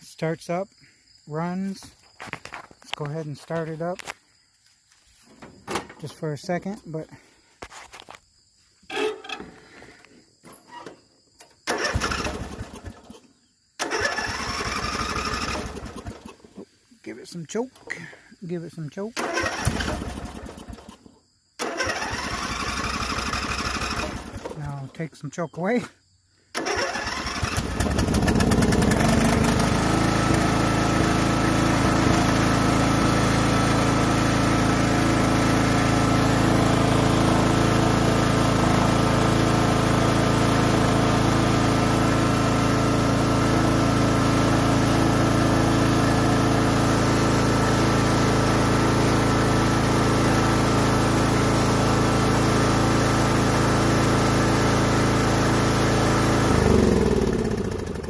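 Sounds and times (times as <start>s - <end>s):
riding mower engine running: 1.3s - 4.2s, 8.9s - 21.0s, 21.6s - 25.9s, 26.5s - 58.0s.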